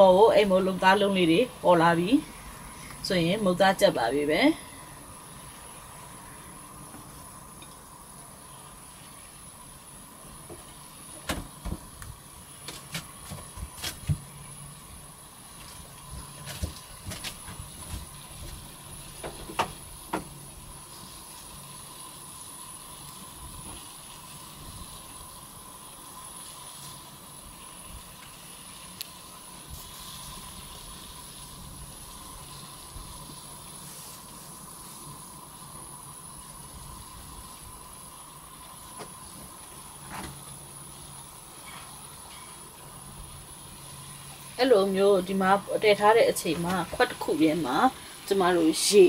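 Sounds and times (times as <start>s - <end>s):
water boiling in a pot: 0.0s - 49.0s.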